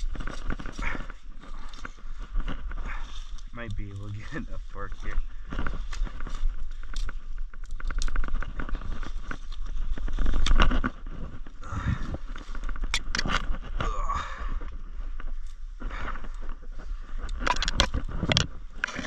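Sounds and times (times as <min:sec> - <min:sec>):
low wind rumble on microphone: 0:00.0 - 0:19.0
rustling of leaves and brush: 0:00.0 - 0:19.0.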